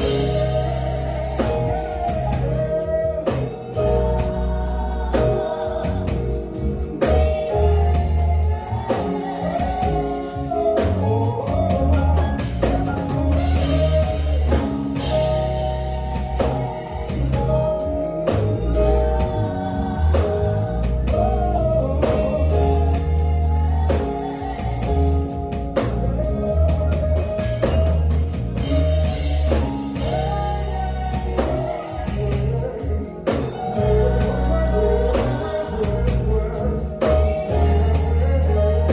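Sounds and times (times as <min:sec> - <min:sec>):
band with bass and drums: 0:00.0 - 0:38.9
person singing gospel: 0:00.0 - 0:38.9.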